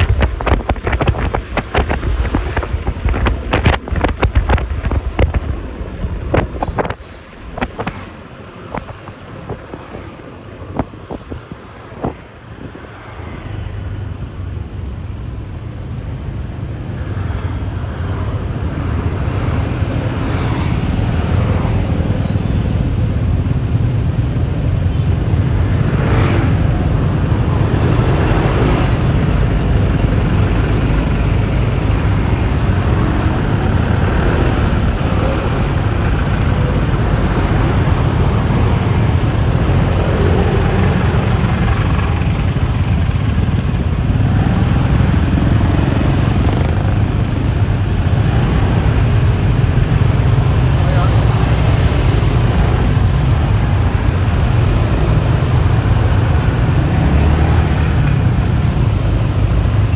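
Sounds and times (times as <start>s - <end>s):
road noise: 0.0s - 59.9s
wind rushing over microphone: 0.0s - 59.9s.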